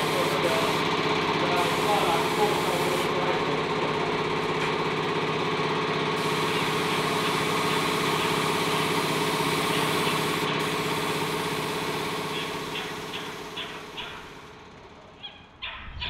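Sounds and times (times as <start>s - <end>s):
engine humming steadily: 0.0s - 15.3s.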